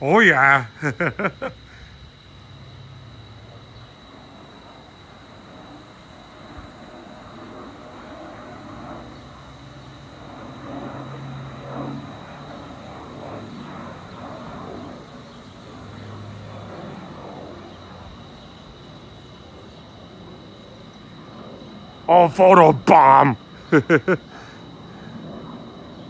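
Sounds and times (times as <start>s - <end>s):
distant jet flying past: 0.0s - 26.0s.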